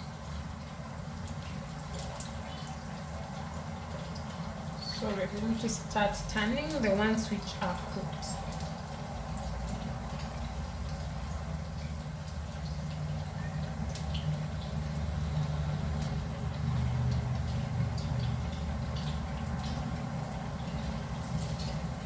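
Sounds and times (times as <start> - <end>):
frying in oil popping: 0.0 - 22.0.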